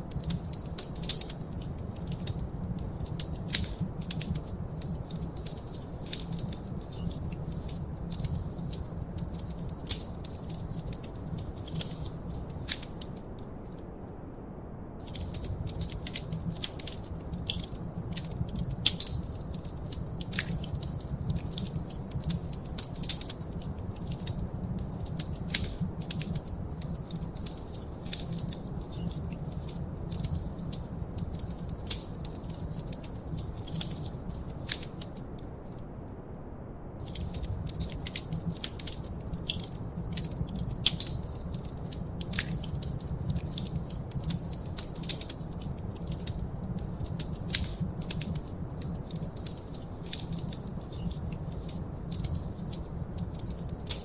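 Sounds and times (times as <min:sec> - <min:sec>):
wood fire crackling: 0:00.0 - 0:13.8, 0:15.0 - 0:36.0, 0:37.0 - 0:54.0.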